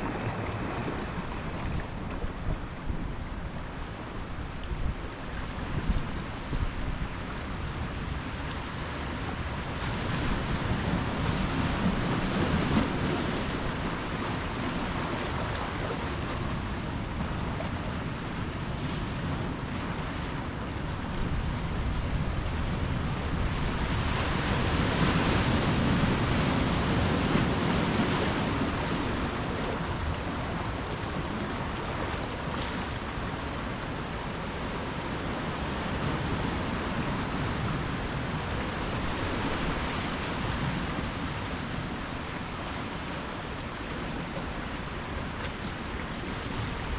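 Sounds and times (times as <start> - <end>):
waves breaking on shore: 0.0 - 46.9.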